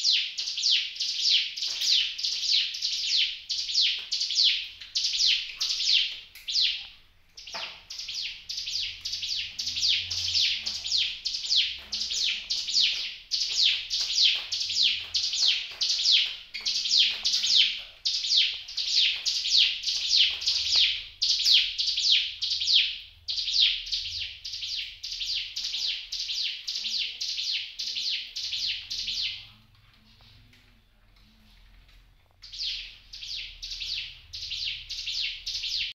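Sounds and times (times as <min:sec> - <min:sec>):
bird singing high chirps: 0:00.0 - 0:29.6, 0:32.4 - 0:35.9.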